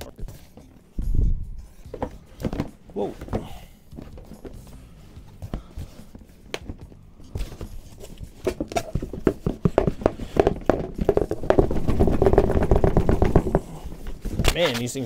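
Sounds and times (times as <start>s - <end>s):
cardboard knocking and scraping: 1.7s - 14.7s.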